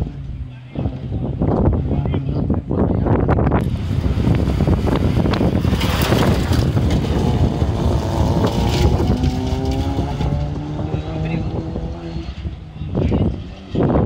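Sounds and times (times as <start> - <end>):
rally car engine at full throttle: 0.0 - 14.0
road noise: 0.0 - 14.0.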